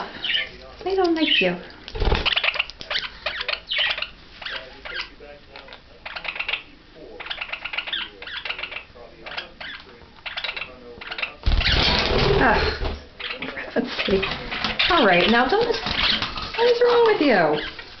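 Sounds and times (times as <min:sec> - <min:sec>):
birds chirping and chattering: 0:00.0 - 0:18.0.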